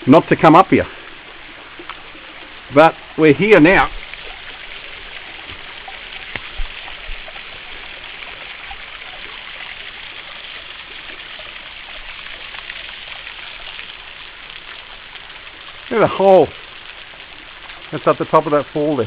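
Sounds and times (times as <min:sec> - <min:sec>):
water rushing over rocks: 0:00.0 - 0:19.0.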